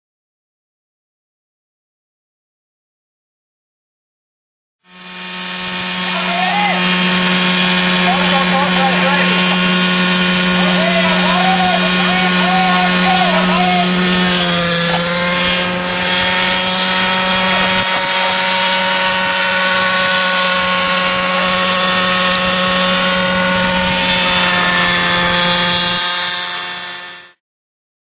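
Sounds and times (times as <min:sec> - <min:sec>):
model helicopter whine: 0:04.9 - 0:27.4.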